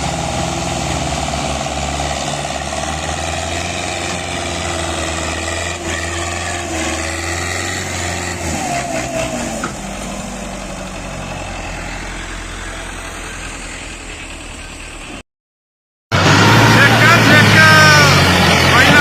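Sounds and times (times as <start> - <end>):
tractor engine running: 0.0 - 15.2, 16.2 - 19.0.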